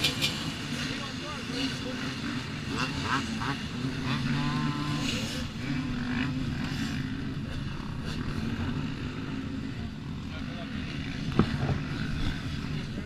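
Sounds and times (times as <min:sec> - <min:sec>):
dirt bike engines idling: 0:00.0 - 0:13.0.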